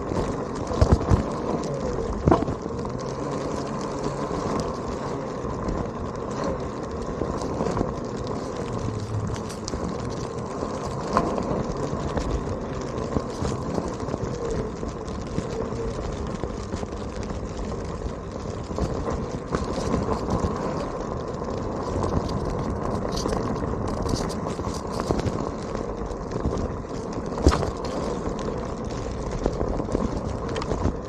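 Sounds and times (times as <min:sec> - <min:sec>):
grit and pebbles ticking: 0:00.0 - 0:31.0
tyre and road noise: 0:00.0 - 0:31.0.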